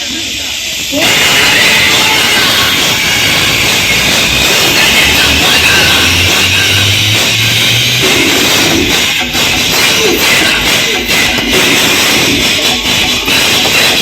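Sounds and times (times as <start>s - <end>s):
loud music through sound system: 0.0s - 14.0s
deep bass notes: 1.0s - 14.0s.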